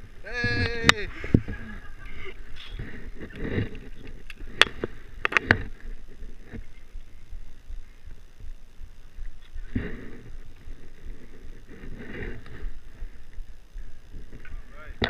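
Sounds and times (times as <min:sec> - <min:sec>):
low faint rumble: 0:00.0 - 0:15.0.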